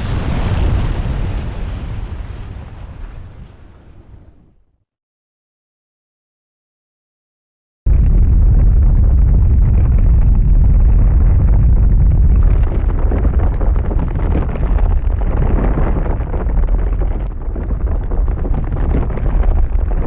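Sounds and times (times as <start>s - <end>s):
low rumbling explosion blast: 0.0s - 4.6s, 7.9s - 20.0s.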